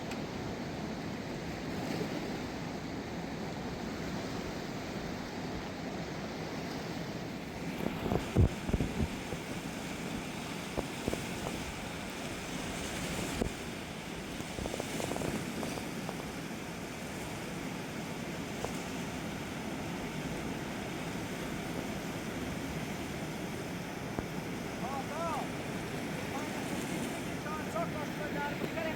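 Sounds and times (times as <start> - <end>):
flooded river rushing: 0.1 - 28.9.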